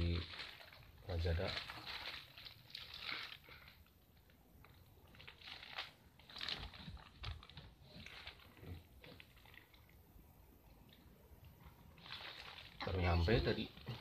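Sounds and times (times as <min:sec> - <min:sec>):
plastic bag crinkling: 0:00.0 - 0:10.0, 0:11.5 - 0:14.0.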